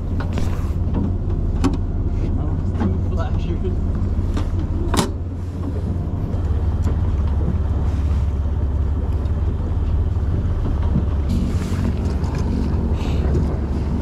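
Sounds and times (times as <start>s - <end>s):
boat engine drone: 0.0s - 14.0s
wind rumbling on microphone: 0.0s - 14.0s.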